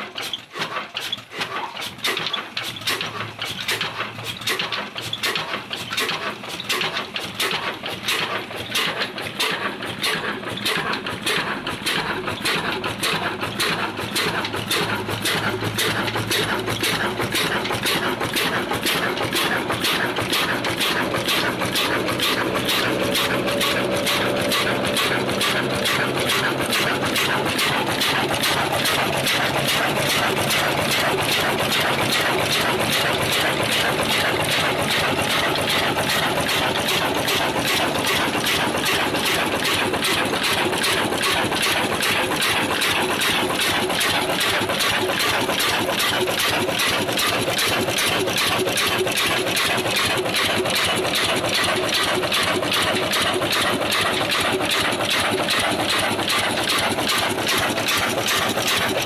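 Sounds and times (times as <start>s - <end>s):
diesel engine clattering: 0.0s - 59.0s.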